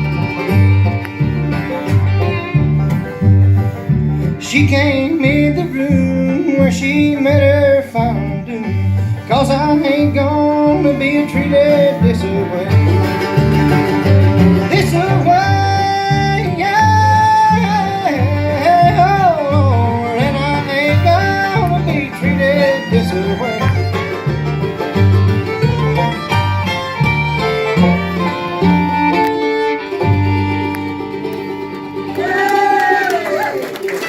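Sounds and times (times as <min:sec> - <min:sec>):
fiddle with sliding notes: 0:00.0 - 0:32.8
bass notes: 0:00.0 - 0:33.0
guitar: 0:00.0 - 0:34.0.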